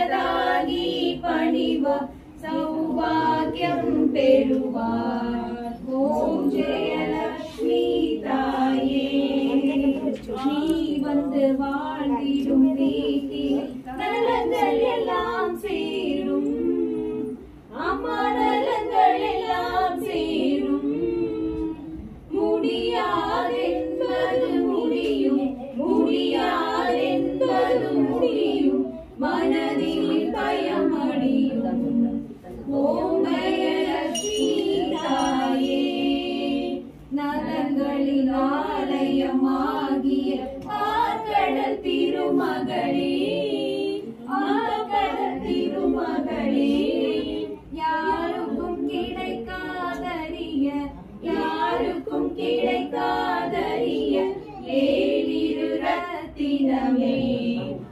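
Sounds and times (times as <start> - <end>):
women singing devotional song: 0.0 - 57.9.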